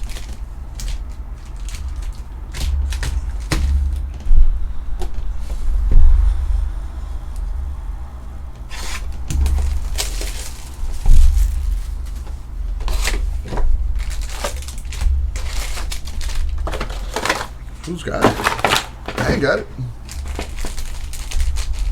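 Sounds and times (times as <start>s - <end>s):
card pack wrappers crinkling: 0.0s - 4.3s, 8.5s - 21.9s
cards being handled: 0.0s - 5.6s, 8.5s - 21.9s.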